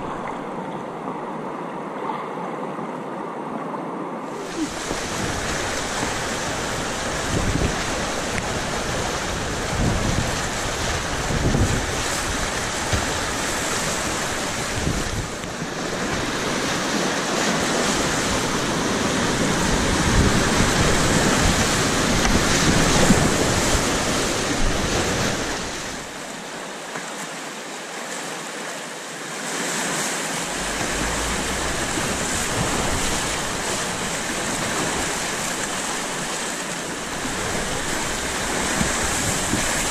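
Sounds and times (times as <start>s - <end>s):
whitewater rushing and splashing: 0.0s - 39.9s.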